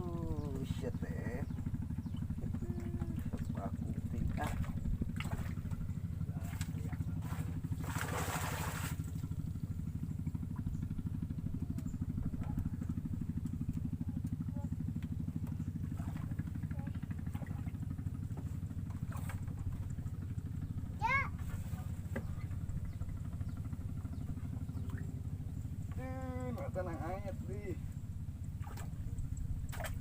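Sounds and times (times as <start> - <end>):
motor pulsing hum: 0.0 - 30.0.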